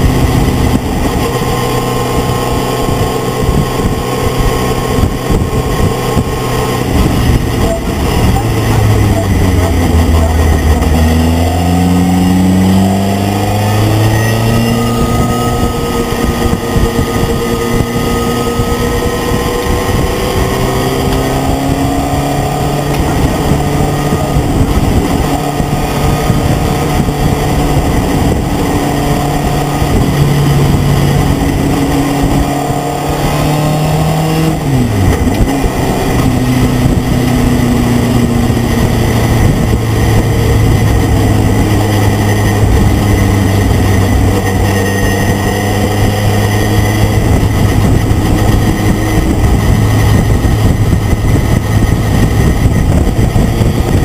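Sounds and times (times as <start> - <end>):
truck engine revving through gears: 0.0 - 54.0
wind and road noise: 0.0 - 54.0.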